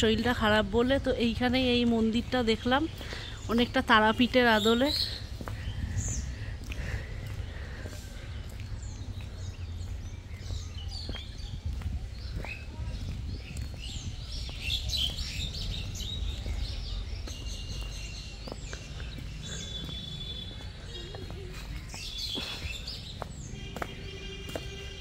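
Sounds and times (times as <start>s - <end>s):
birds chirping and trilling: 0.0s - 25.0s
low outdoor rumble: 0.0s - 25.0s.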